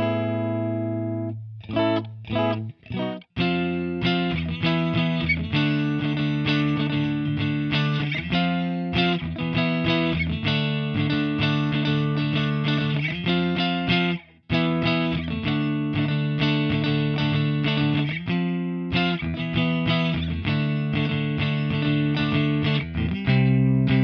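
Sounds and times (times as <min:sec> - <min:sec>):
overdriven electric guitar: 0:00.0 - 0:24.0.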